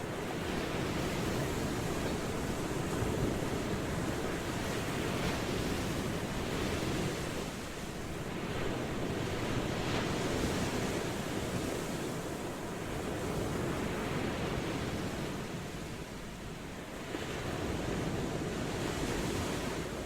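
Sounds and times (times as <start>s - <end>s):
ocean waves washing onto shore: 0.0s - 20.0s.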